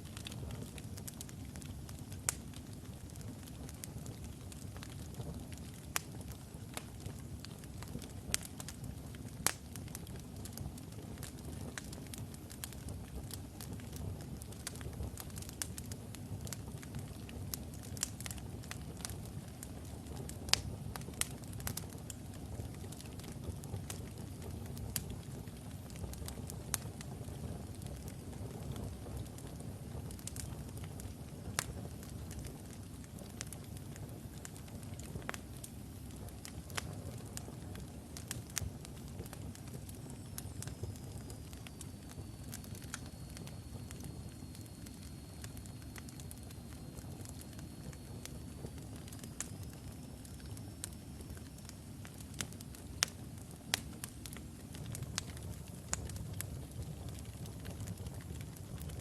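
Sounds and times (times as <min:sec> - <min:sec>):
fire crackling and popping: 0:00.0 - 0:59.0
low flame rush: 0:00.0 - 0:59.0.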